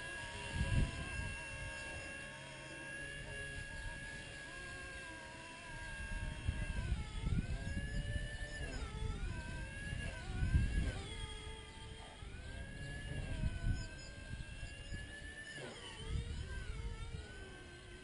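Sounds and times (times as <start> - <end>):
toy helicopter rotor whine: 0.0 - 18.0.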